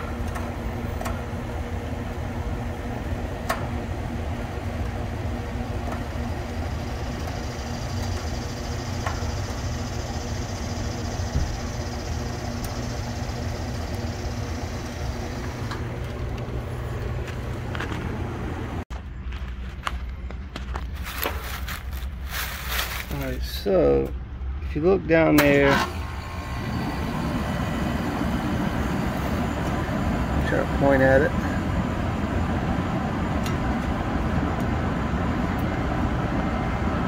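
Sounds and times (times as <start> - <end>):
machine drone: 0.0 - 19.2, 21.4 - 37.0
even hum: 0.0 - 37.0.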